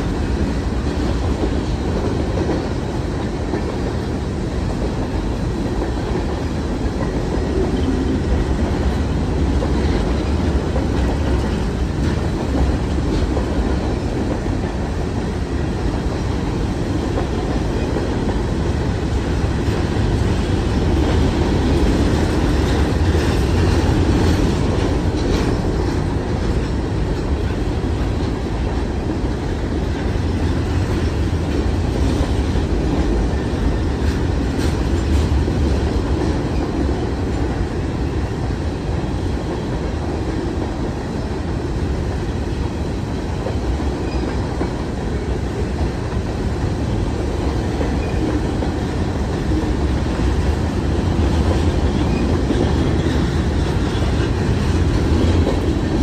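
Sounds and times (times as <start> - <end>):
freight cars rumbling on rails: 0.0 - 56.0.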